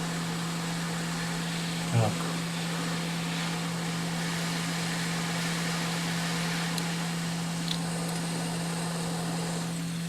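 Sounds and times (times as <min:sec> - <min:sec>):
blower humming: 0:00.0 - 0:10.0.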